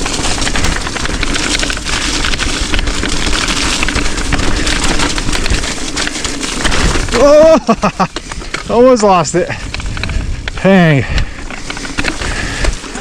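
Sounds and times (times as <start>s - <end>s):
clatter of rattles and knocks: 0.0s - 13.0s
wind buffeting: 0.0s - 13.0s.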